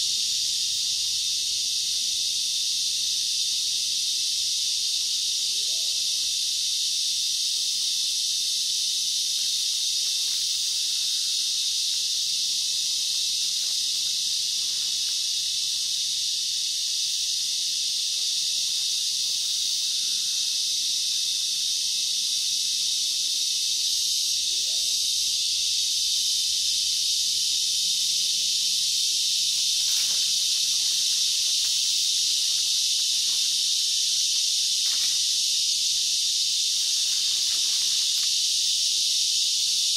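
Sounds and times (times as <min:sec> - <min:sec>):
insects chorus hissing: 0:00.0 - 0:39.9.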